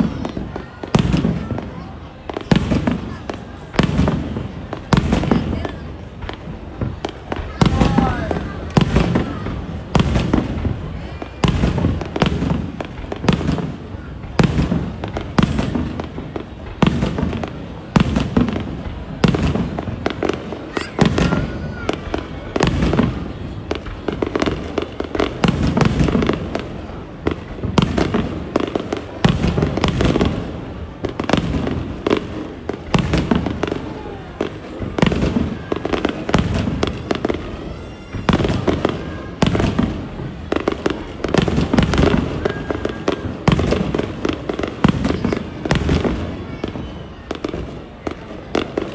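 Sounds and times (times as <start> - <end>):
fireworks booming and cracking: 0.0 - 48.9.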